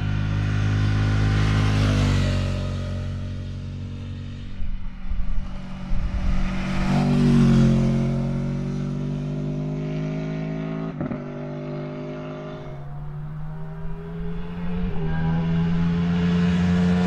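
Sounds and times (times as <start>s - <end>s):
motorcycle accelerating past: 0.0s - 17.0s.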